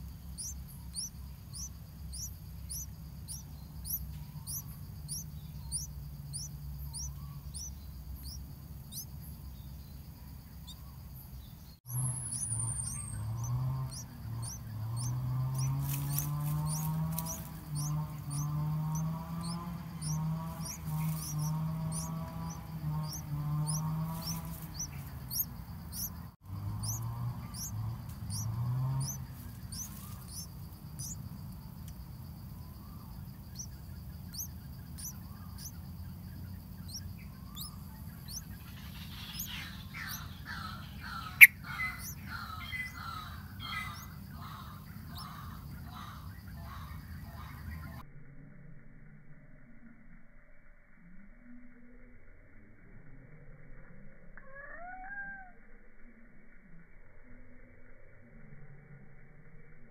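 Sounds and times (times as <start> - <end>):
busy bird chirping: 0.0 - 48.0
nestling begging chirps: 0.0 - 48.0
low hum: 0.0 - 54.5.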